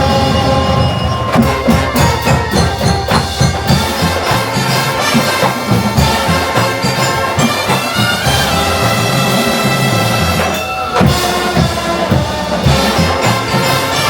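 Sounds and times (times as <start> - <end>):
bugles and brass chords: 0.0 - 14.0
drum line beat: 0.0 - 14.0.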